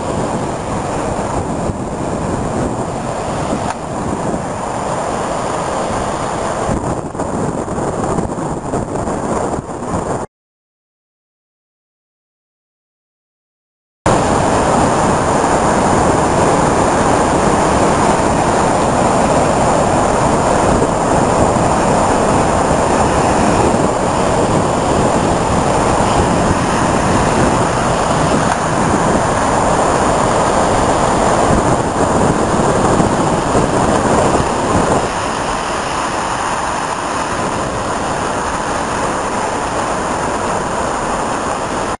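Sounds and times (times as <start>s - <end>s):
rough sea surf breaking: 0.0s - 10.3s, 14.1s - 42.0s
wind on microphone: 0.0s - 10.3s, 14.1s - 42.0s.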